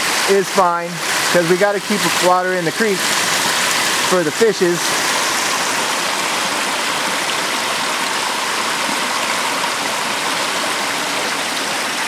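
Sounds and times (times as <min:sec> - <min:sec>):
water rushing through weir: 0:00.0 - 0:12.0.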